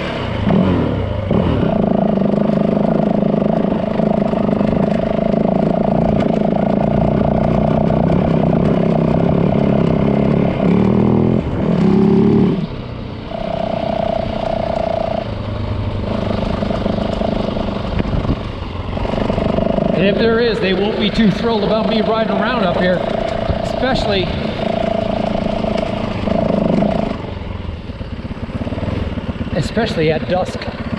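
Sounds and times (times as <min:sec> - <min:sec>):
dirt bike engine running: 0:00.0 - 0:30.9.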